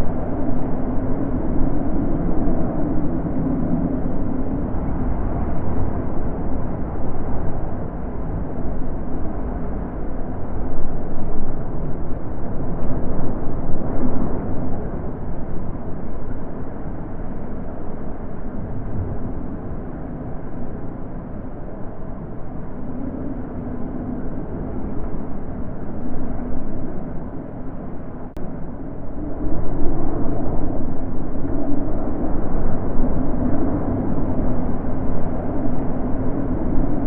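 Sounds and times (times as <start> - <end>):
wind blowing in gusts: 0.0 - 37.0.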